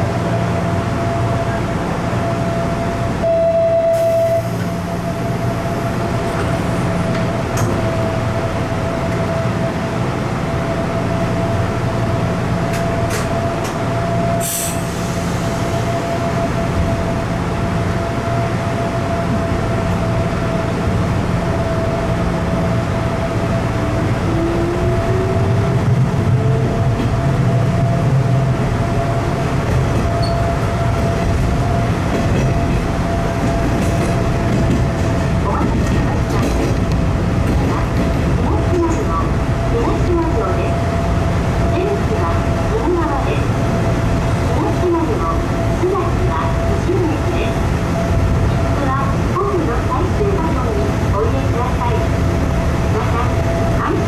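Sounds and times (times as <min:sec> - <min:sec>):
train wheels and motors rumbling: 0:04.0 - 0:54.0.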